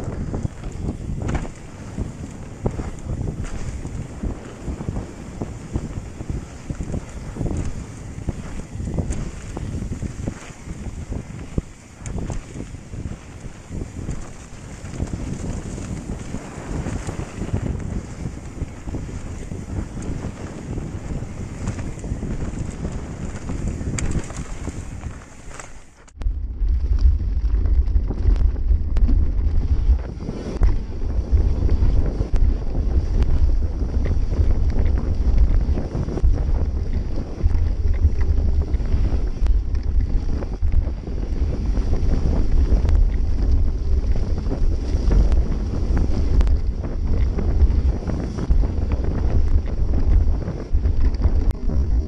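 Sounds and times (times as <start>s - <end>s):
bike clicking and rattling: 0.0s - 52.0s
tyres rumbling on dirt trail: 0.0s - 52.0s
wind buffeting microphone: 0.0s - 52.0s.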